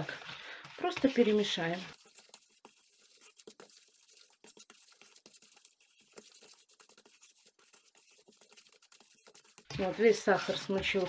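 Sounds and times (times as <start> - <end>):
fork scraping a steel bowl: 0.0 - 11.0.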